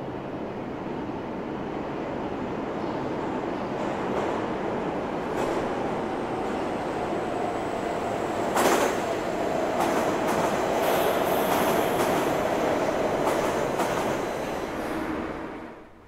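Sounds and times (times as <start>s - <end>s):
train wheels rumbling on rail: 2.8s - 15.8s.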